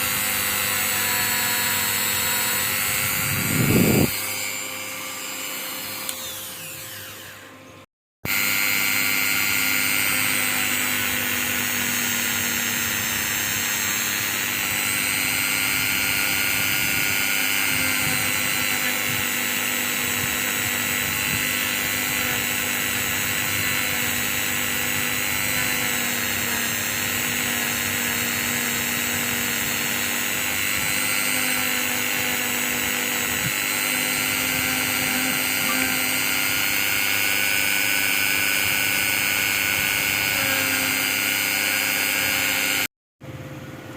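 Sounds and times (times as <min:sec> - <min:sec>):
small electric tool motor whining: 0:00.0 - 0:42.9.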